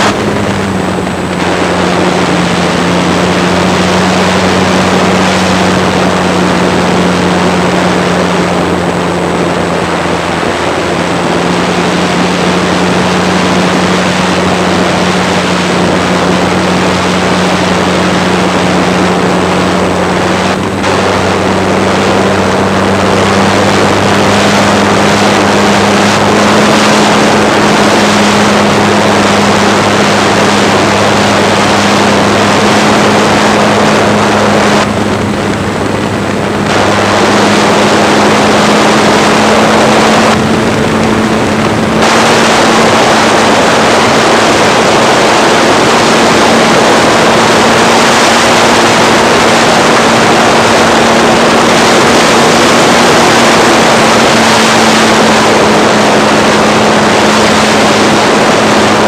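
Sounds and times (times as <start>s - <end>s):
model airplane motor droning: 0.0s - 59.0s
rush of airflow: 0.0s - 59.0s.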